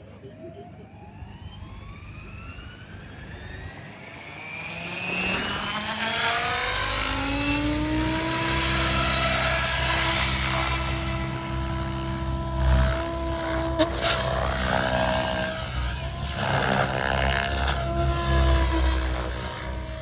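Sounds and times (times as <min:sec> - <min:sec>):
electric motor whine: 0:00.8 - 0:20.0.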